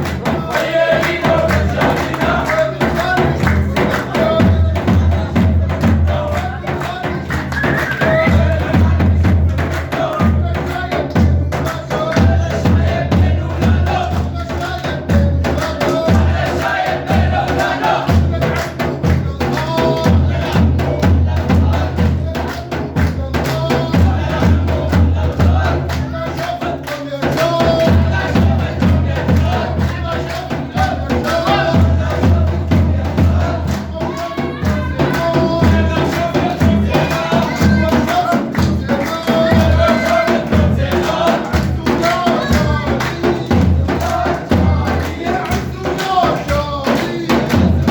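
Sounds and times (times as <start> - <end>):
crowd chanting along: 0.0 - 47.9
lead singer chanting: 0.0 - 47.9
repeating drum beat: 0.0 - 47.9.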